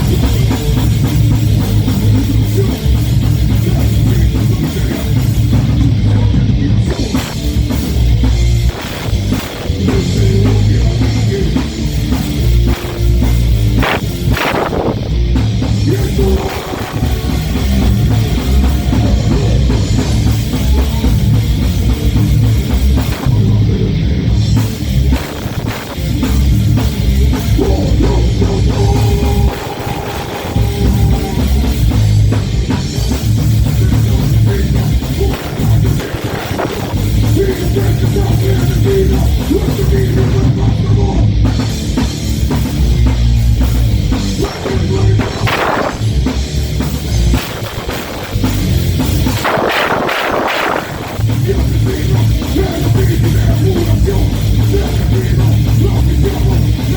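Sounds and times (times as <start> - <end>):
bass guitar: 0.0 - 56.9
distorted electric guitars: 0.0 - 56.9
pounding drum kit: 0.0 - 56.9.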